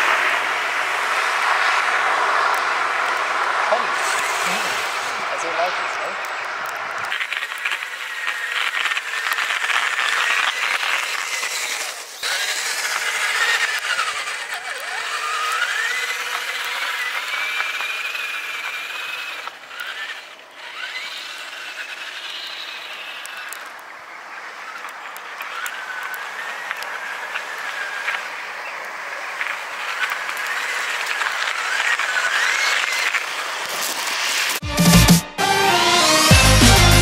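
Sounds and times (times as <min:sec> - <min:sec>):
electric motor and gear whine: 0:00.0 - 0:37.0
tires hissing on snow: 0:00.0 - 0:37.0.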